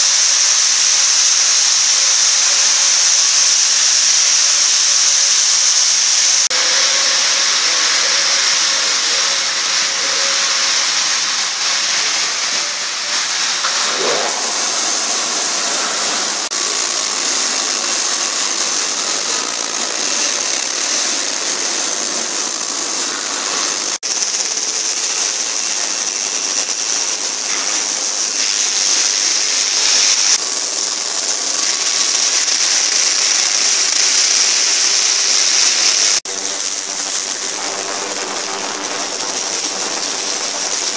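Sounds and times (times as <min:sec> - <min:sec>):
cleaning machine hiss: 0:00.0 - 0:40.9
thin high-pitched whine: 0:00.0 - 0:40.9.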